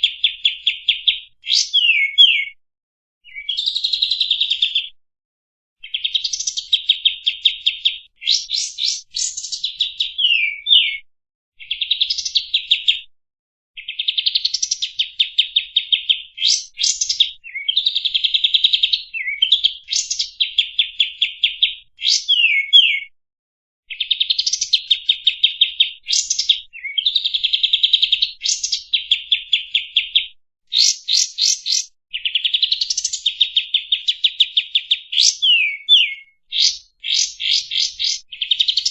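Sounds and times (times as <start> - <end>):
bird singing rapid trills: 0.0 - 2.5, 5.9 - 11.0, 13.8 - 23.0, 24.0 - 38.9.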